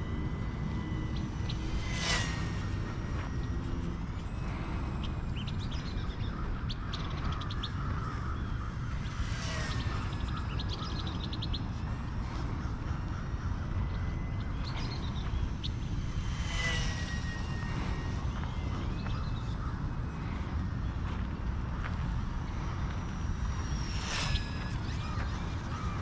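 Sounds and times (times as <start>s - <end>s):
birds chirping: 0.0s - 26.0s
small electric motor whining past: 0.0s - 26.0s
steady low rumble: 0.0s - 26.0s.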